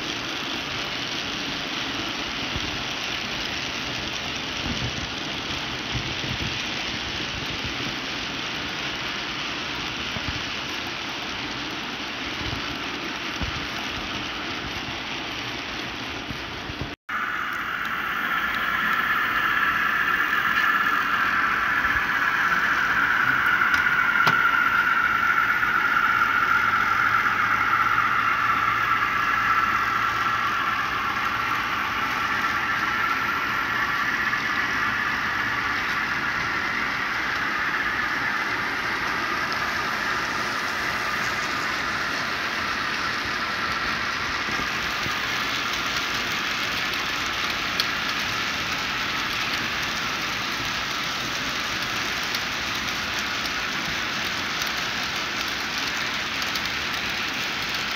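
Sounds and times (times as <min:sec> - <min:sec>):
model train whirring: 0:00.0 - 0:57.9.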